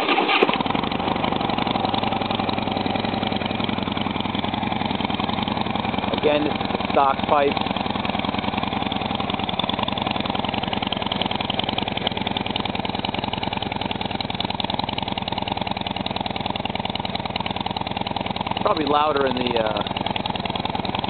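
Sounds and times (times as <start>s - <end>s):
motorcycle engine idling: 0.1s - 21.0s.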